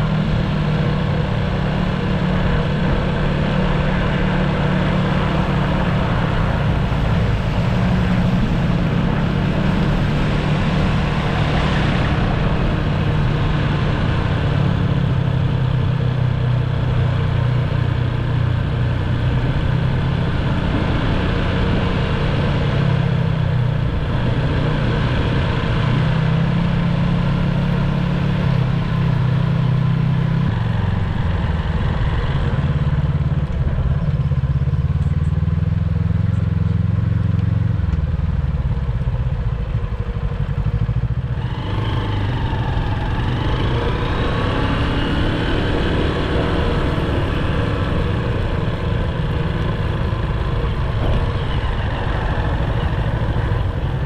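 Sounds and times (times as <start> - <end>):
motor vehicle engine running: 0.0 - 54.0.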